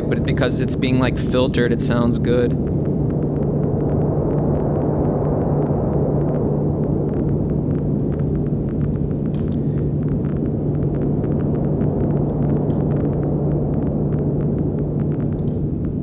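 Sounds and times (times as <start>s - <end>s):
faint crackles: 0.0s - 16.0s
low synthesizer drone: 0.0s - 16.0s.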